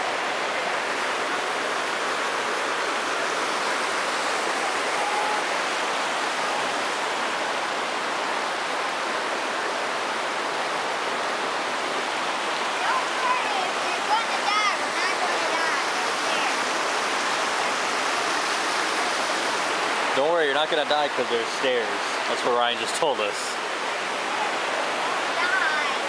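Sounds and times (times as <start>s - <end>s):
creek rushing over stones: 0.0s - 26.0s.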